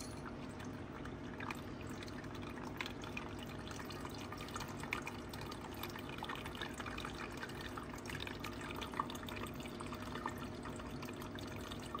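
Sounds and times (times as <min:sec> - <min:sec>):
faint pump hum: 0:00.0 - 0:12.0
water trickling and dripping: 0:00.0 - 0:12.0.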